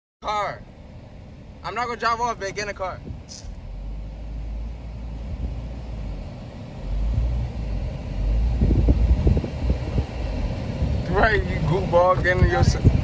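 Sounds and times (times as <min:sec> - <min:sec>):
car cabin rumble: 0:00.8 - 0:13.0.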